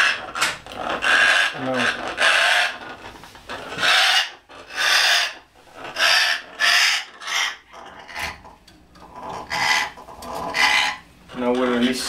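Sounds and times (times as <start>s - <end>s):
parrot squawking: 0.0s - 11.1s.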